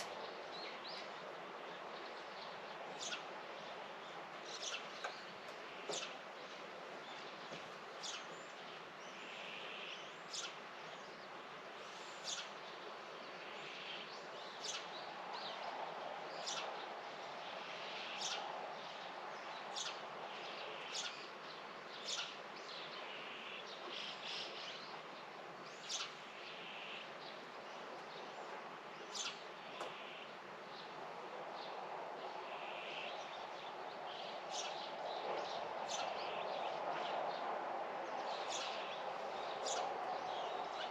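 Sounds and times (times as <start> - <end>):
small birds chirping: 0.0 - 25.0, 25.6 - 31.0, 31.6 - 40.9.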